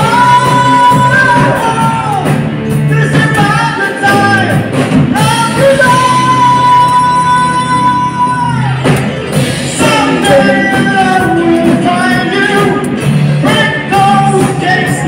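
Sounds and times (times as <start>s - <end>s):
man singing: 0.0s - 8.9s, 9.6s - 15.0s
rock band playing: 0.0s - 15.0s.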